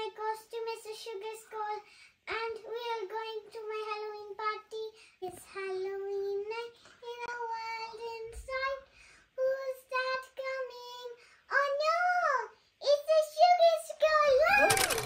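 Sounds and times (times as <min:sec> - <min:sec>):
girl singing unaccompanied: 0:00.0 - 0:15.0.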